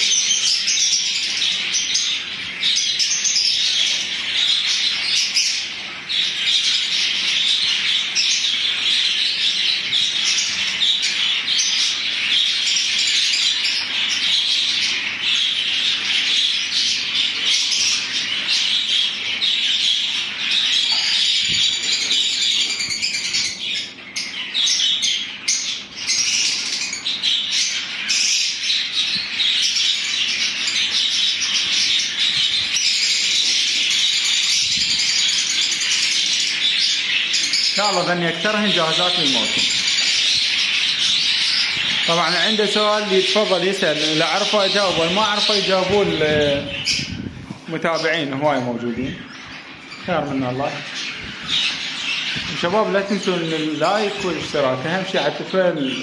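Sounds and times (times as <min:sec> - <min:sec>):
lovebirds chattering and squawking: 0:00.0 - 0:56.0.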